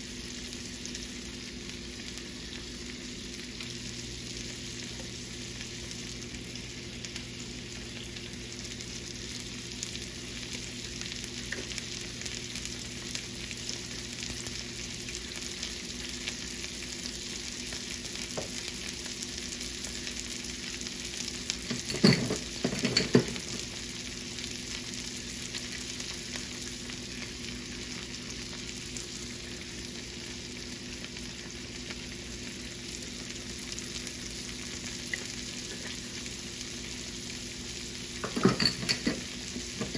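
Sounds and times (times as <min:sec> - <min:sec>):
fish frying sizzle: 0:00.0 - 0:39.9.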